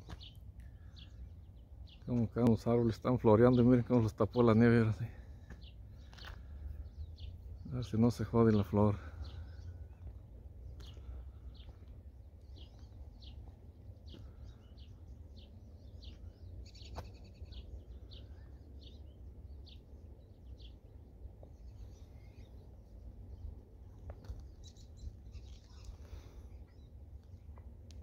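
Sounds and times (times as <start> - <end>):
faint low rumble: 0.0 - 28.0
small birds chirping: 0.0 - 28.0.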